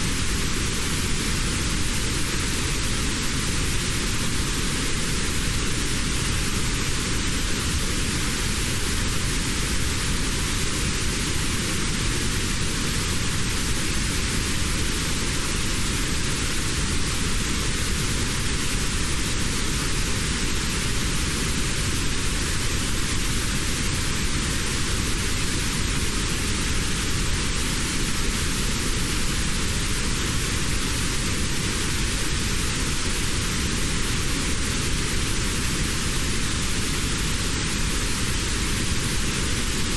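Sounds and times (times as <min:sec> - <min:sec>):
steady notched white noise: 0:00.0 - 0:39.9.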